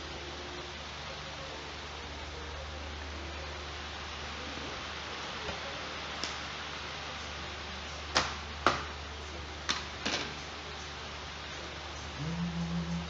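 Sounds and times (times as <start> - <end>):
steady low hum and hiss: 0.0 - 13.0.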